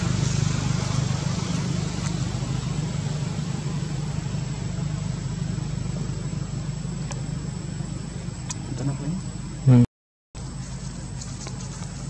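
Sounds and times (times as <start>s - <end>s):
constant hiss: 0.0s - 12.0s
low engine hum: 0.0s - 12.0s.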